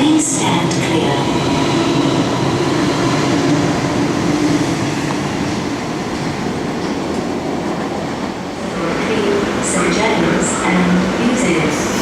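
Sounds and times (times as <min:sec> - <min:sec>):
electric train passing through: 0:00.0 - 0:12.0.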